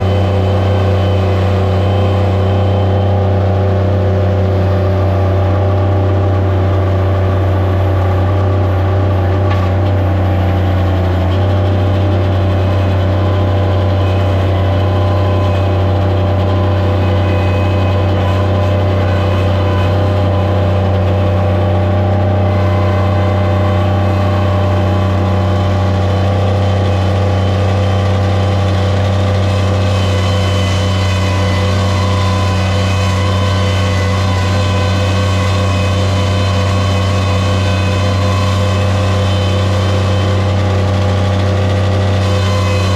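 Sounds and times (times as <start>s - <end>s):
loader engine running: 0.0s - 42.9s.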